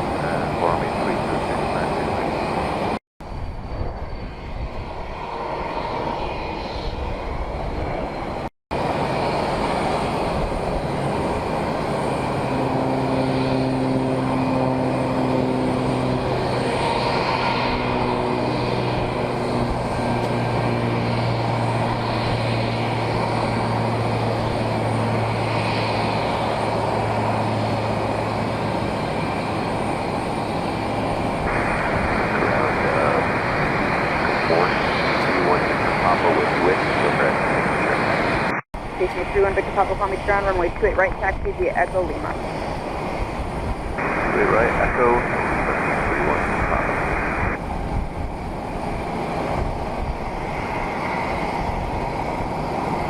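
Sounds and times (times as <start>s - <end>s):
airplane engines running: 0.0s - 53.0s.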